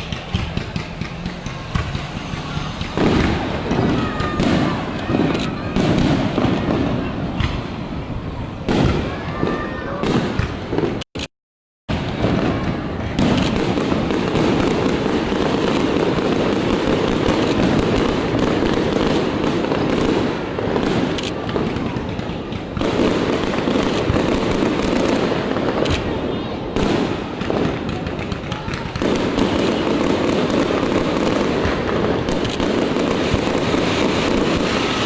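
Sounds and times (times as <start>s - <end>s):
fireworks bangs and crackling: 0.0s - 11.3s, 11.9s - 35.0s.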